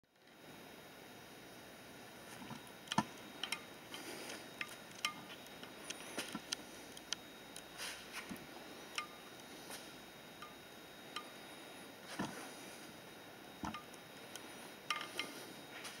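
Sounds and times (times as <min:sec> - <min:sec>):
faint steady hiss: 0:00.1 - 0:16.0.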